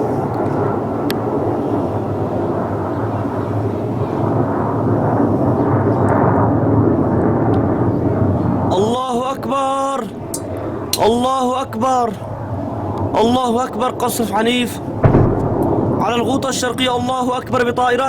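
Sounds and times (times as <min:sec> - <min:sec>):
jet engine rushing overhead: 0:00.0 - 0:18.0.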